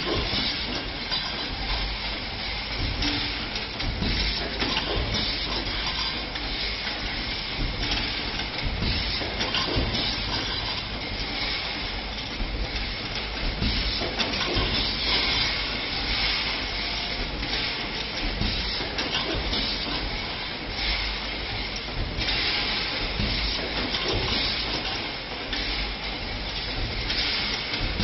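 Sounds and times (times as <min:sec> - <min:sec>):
bending machine hissing: 0:00.0 - 0:28.0.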